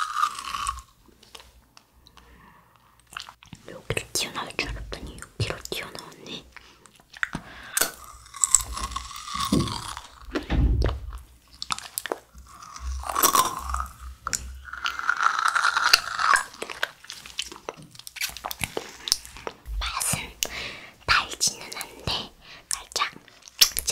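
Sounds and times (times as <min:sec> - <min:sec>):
wet sucking and chewing: 0:00.0 - 0:10.5, 0:11.1 - 0:20.6.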